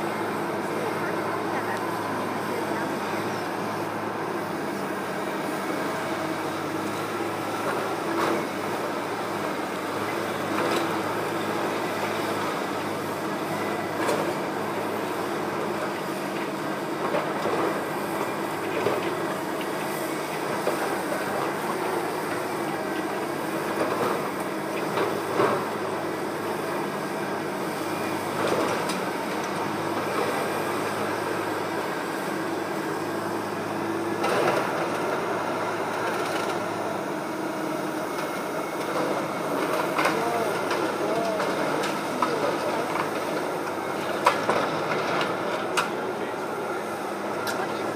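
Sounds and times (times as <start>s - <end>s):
machinery engine rumble: 0.0s - 47.9s.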